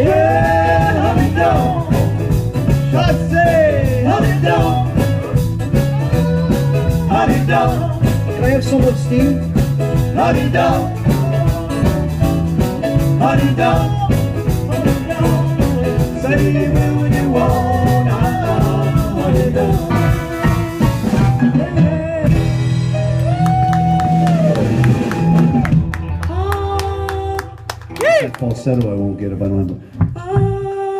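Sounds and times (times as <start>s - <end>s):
live rock and roll band: 0.0s - 29.1s.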